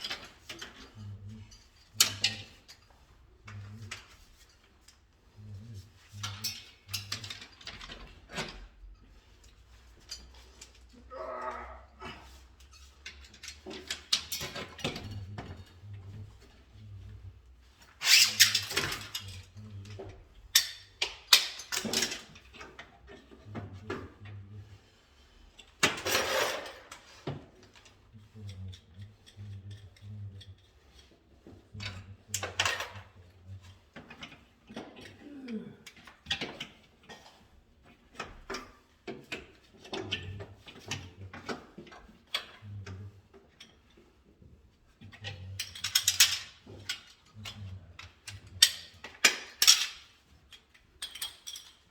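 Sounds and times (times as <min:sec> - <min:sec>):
hand tools clicking and scraping: 0:00.0 - 0:05.1, 0:05.8 - 0:24.4, 0:25.4 - 0:44.2, 0:45.0 - 0:51.9.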